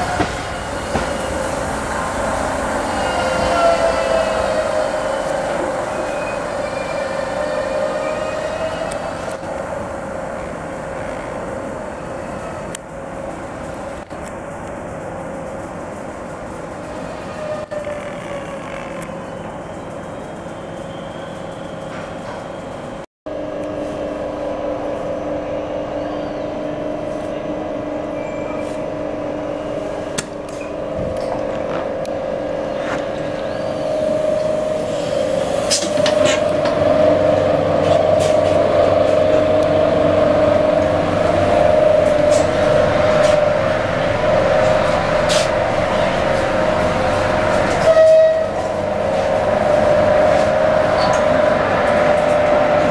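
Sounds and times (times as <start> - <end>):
train electrical hum: 0.0 - 52.9.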